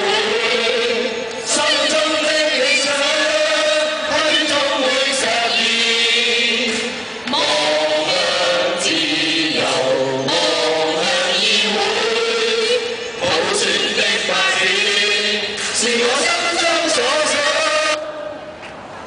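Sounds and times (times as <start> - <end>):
group singing through loudspeaker: 0.0 - 18.5.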